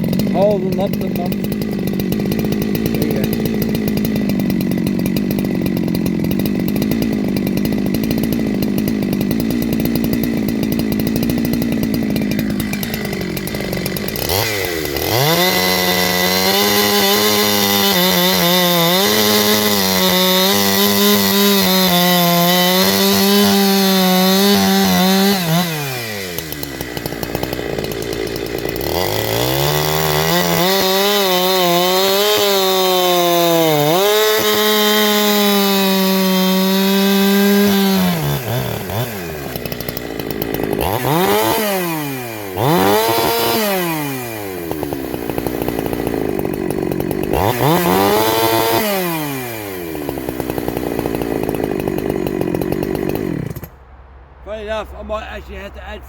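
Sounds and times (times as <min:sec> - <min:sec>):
chainsaw revving: 0:00.0 - 0:53.8.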